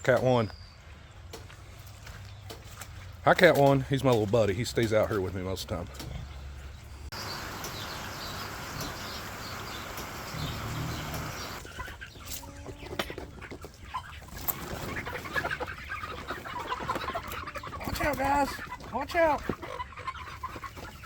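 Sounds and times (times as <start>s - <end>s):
chickens clucking: 2.5s - 21.0s.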